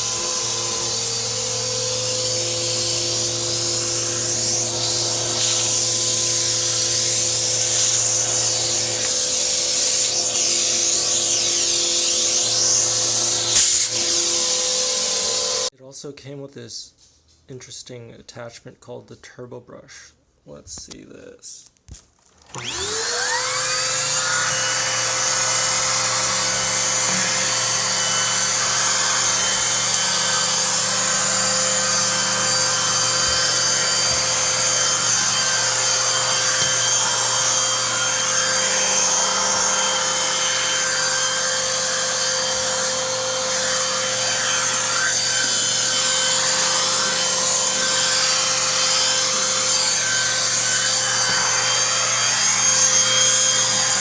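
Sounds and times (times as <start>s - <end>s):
vacuum cleaner motor whine: 0.0s - 15.7s, 22.5s - 54.0s.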